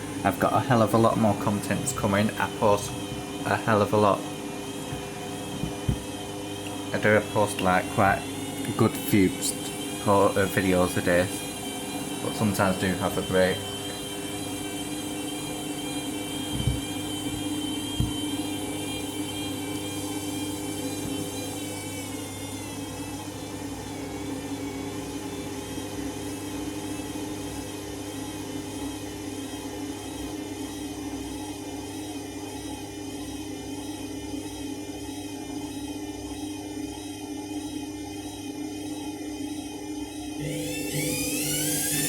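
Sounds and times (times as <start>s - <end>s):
washing machine spinning: 0.0s - 42.0s.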